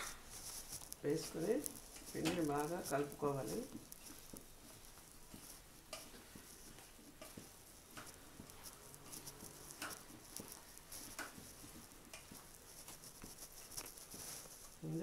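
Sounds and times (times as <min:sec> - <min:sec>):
wet squishing of hand mixing: 0:00.0 - 0:15.0.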